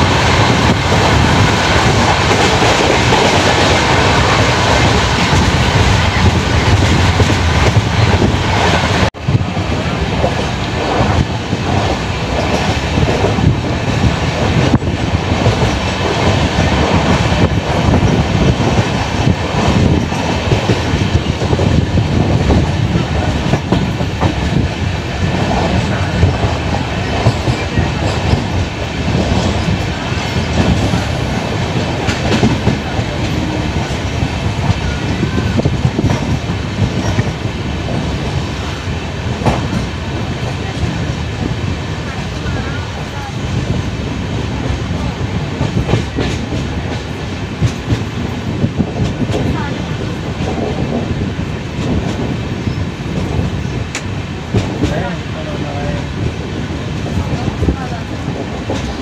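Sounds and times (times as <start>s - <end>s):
train wheels rattling on rails: 0.0s - 59.0s.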